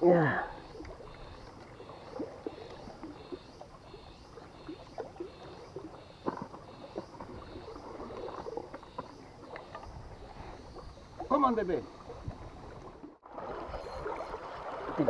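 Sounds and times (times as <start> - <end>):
wind and sea rumble: 0.0 - 15.0.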